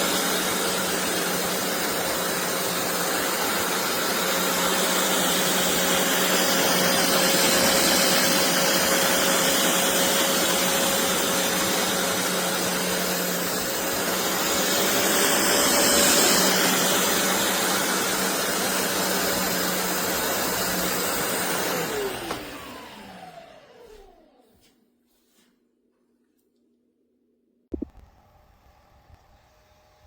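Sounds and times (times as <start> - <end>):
carpet shampooer motor running: 0.0 - 24.5.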